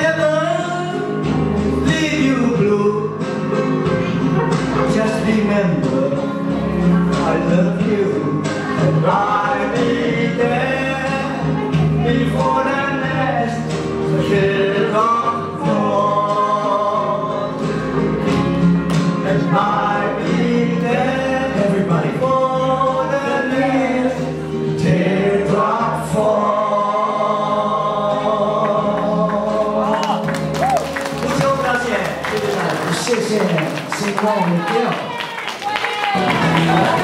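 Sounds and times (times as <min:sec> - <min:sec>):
person singing karaoke: 0:00.0 - 0:30.8, 0:36.0 - 0:37.0
recorded backing track: 0:00.0 - 0:37.0.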